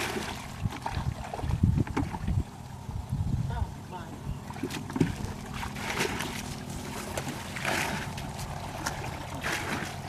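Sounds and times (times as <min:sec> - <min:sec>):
muddy water splashing: 0:00.0 - 0:03.0, 0:04.2 - 0:10.0.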